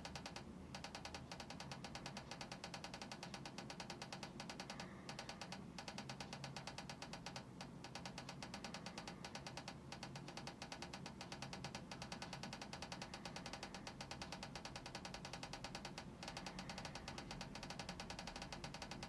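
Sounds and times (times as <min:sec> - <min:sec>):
rapid faint clicking: 0:00.0 - 0:19.0.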